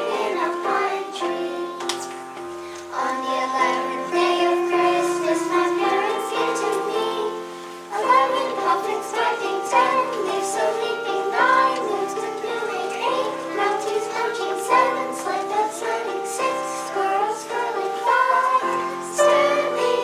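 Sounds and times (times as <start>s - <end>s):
children singing: 0.0s - 20.0s
musical accompaniment: 0.0s - 20.0s.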